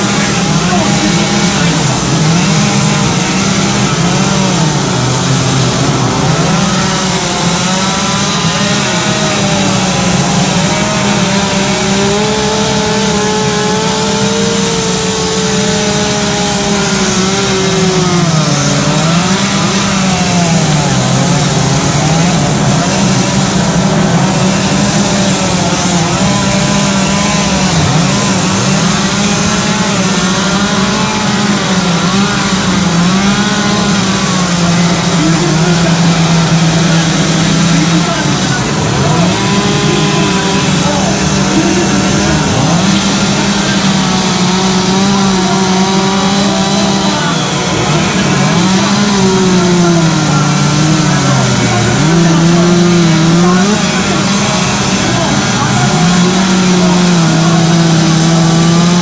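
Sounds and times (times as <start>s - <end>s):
chainsaws carving wood: 0.0s - 59.0s.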